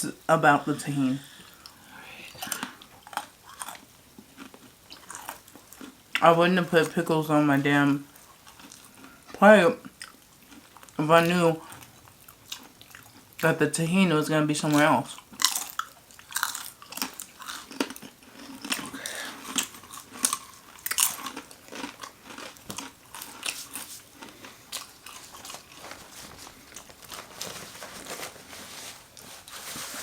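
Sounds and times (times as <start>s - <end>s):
chewing crunchy food: 1.3s - 7.1s, 7.9s - 13.4s, 14.7s - 27.6s.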